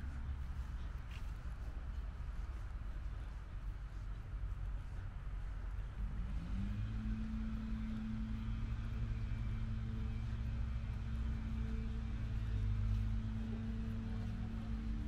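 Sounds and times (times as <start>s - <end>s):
engine humming: 0.0s - 15.0s
low rumble: 0.0s - 15.0s.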